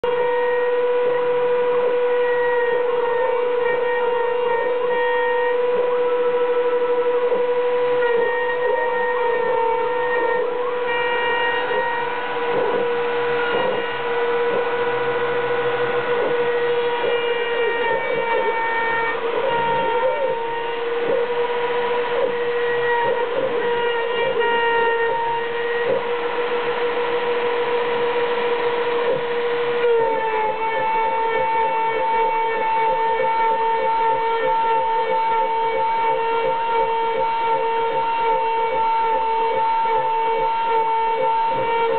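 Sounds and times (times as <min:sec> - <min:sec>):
bit cutting wood: 0:00.0 - 0:41.9
router spindle whine: 0:00.0 - 0:41.9.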